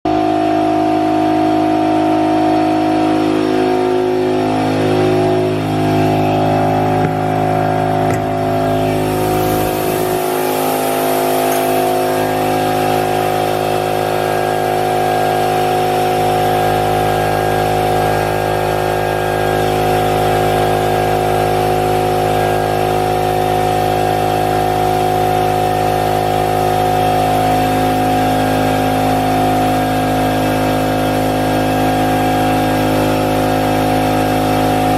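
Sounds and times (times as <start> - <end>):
machining center hum and whine: 0.3 - 34.9.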